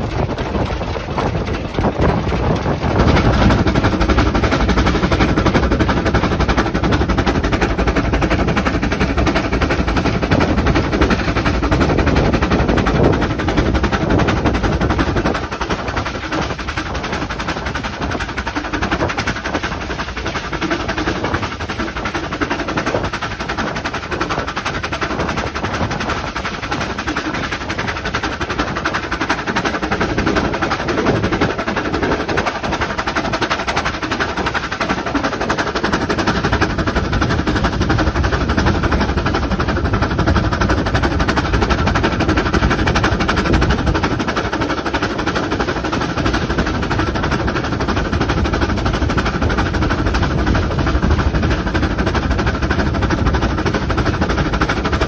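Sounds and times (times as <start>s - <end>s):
locomotive running noise: 0.0s - 55.0s
steam locomotive exhaust beats: 0.0s - 55.0s.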